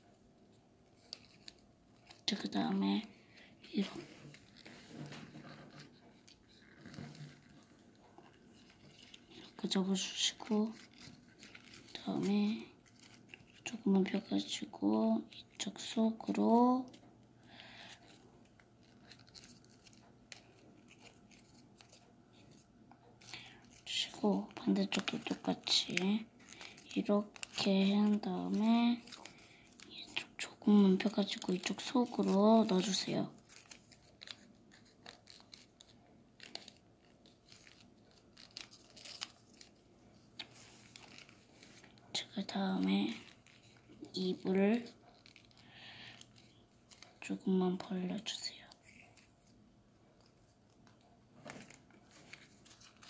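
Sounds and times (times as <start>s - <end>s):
paper rustling and crinkling: 0.9s - 53.0s.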